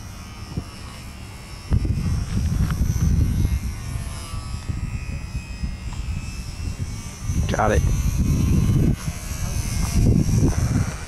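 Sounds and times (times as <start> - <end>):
rc plane motor whine: 0.0 - 11.0
wind buffeting microphone: 0.0 - 11.0.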